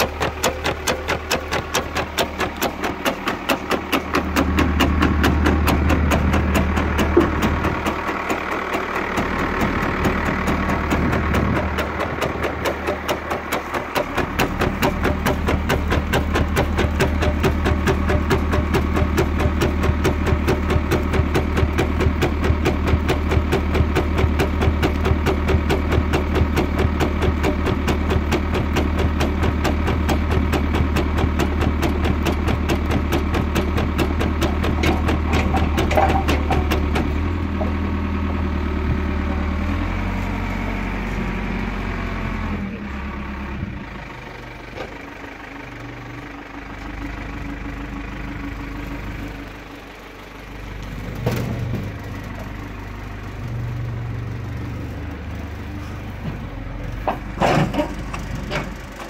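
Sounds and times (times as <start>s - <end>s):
tractor engine and hydraulics humming: 0.0s - 59.0s.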